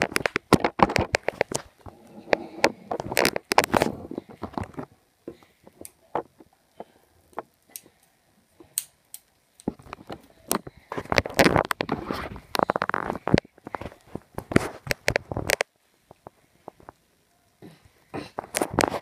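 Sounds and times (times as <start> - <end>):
string handling clicks and rustles: 0.0 - 17.0.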